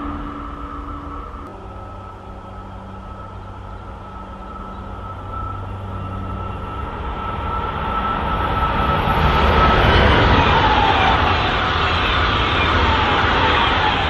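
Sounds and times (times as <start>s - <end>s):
faint whine: 0.0s - 14.0s
passenger train rushing: 0.0s - 14.0s.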